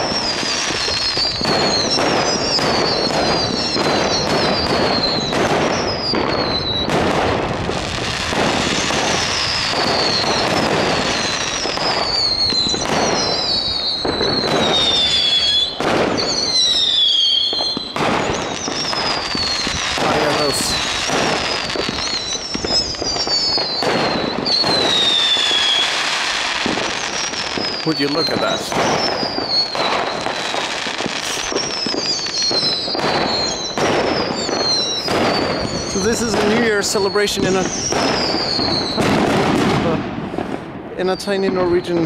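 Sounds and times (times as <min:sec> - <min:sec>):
fireworks bangs and crackles: 0:00.0 - 0:42.0
whistling fireworks: 0:00.0 - 0:42.0.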